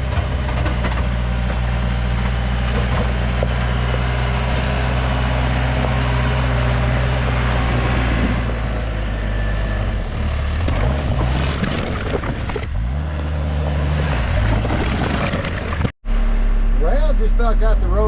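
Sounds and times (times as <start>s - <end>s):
backhoe engine under load: 0.0s - 17.2s.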